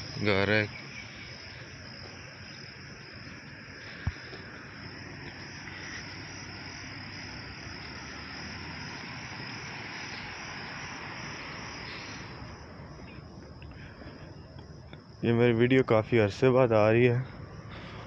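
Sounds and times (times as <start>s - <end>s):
insects shrilling: 0.0s - 14.5s.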